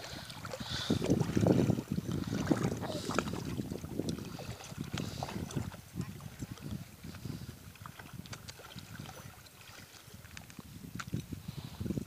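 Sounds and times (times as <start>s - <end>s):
pond water splashing: 0.0s - 11.8s.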